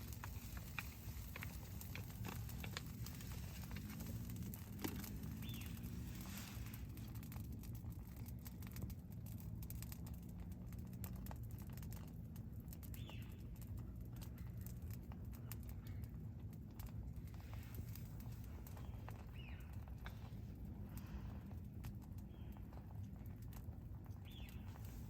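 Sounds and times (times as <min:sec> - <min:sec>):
campfire crackling: 0:00.0 - 0:25.0
low background hum: 0:00.0 - 0:25.0.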